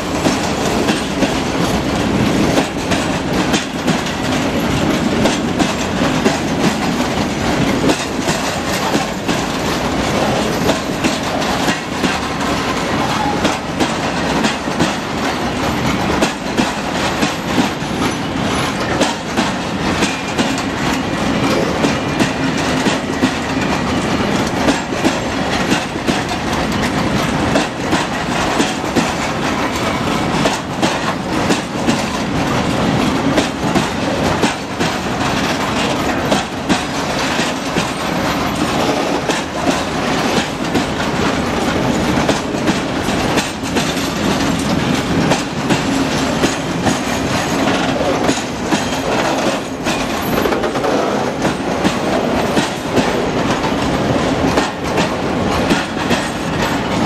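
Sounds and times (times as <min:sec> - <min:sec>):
train rolling rumble: 0:00.0 - 0:57.0
train wheels clattering over joints: 0:00.0 - 0:57.0.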